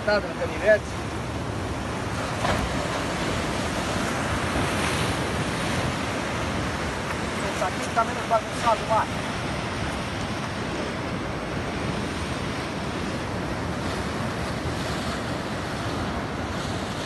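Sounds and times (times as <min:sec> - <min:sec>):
surf breaking over rocks: 0:00.0 - 0:17.0.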